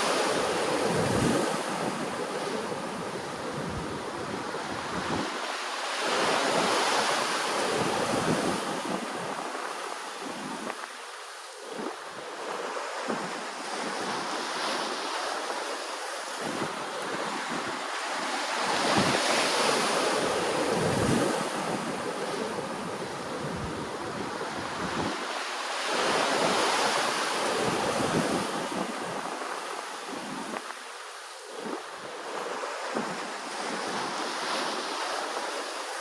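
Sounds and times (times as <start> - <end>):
wind buffeting microphone: 0.0 - 11.0, 11.6 - 30.8
ocean waves washing ashore: 0.0 - 36.0.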